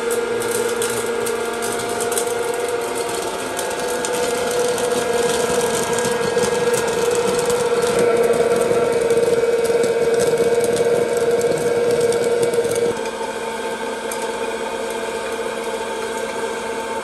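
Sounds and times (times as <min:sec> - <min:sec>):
popped corn tumbling out: 0:00.0 - 0:16.8
popcorn kernels popping: 0:00.0 - 0:17.0
popcorn popper fan whine: 0:00.0 - 0:17.0.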